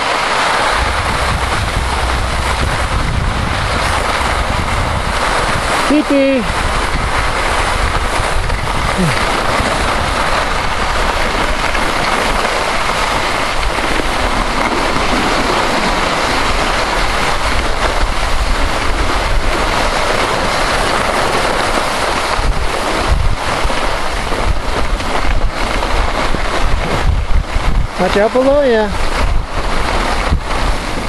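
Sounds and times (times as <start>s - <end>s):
skis sliding over snow: 0.0s - 31.0s
wind buffeting microphone: 0.0s - 31.0s.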